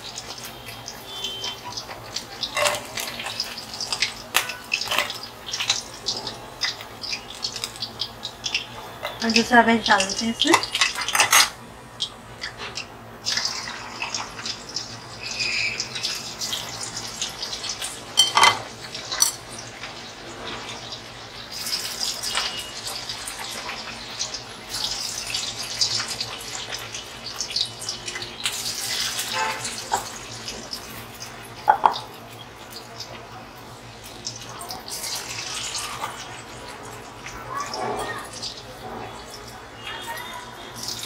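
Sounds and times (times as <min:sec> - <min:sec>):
chicken deep-frying in hot oil: 0:00.0 - 0:41.0.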